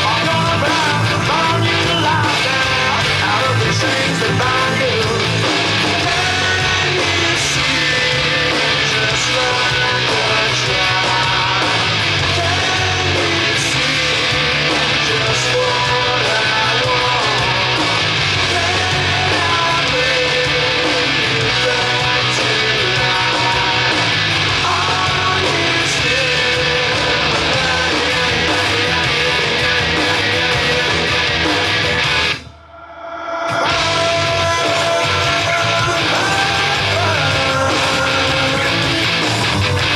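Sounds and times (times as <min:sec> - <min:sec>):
loud rock music with guitar: 0:00.0 - 0:32.6, 0:33.5 - 0:39.9.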